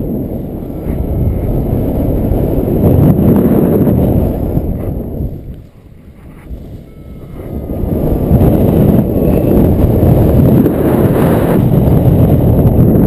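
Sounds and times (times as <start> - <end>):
wind rushing across microphone: 0.0 - 13.0.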